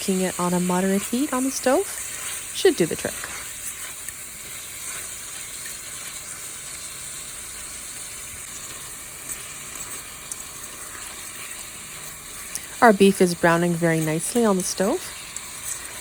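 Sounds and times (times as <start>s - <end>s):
ground beef sizzling in a pot: 0.0s - 16.0s.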